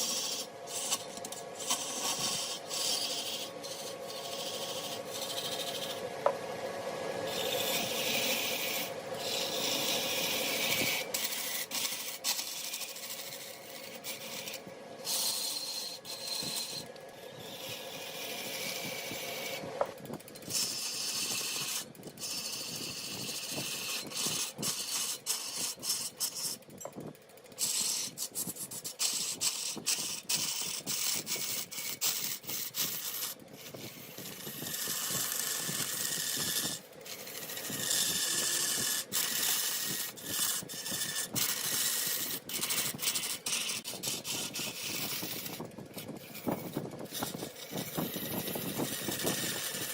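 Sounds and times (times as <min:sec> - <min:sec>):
cutting tool scraping wood: 0:00.0 - 0:49.9
faint steady hum: 0:00.0 - 0:49.9
wood lathe turning: 0:00.0 - 0:49.9.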